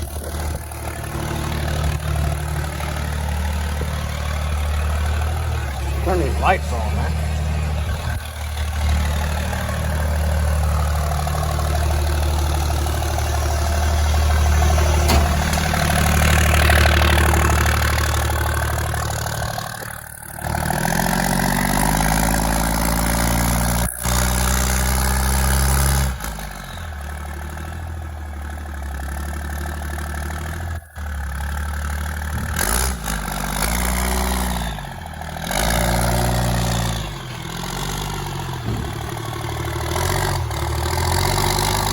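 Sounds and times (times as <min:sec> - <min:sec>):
diesel engine running: 0:00.0 - 0:41.9
engine revving: 0:00.0 - 0:41.9.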